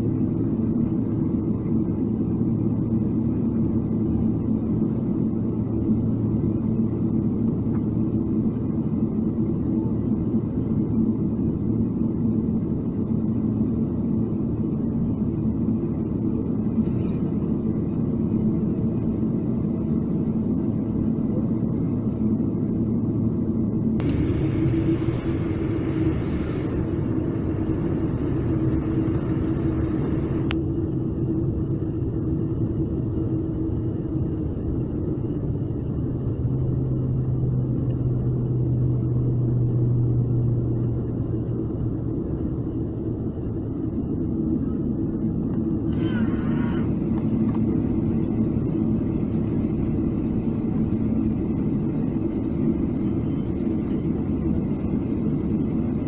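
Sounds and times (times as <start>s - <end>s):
jet engines humming: 0.0s - 56.0s
wheels rumbling on taxiway: 0.0s - 56.0s.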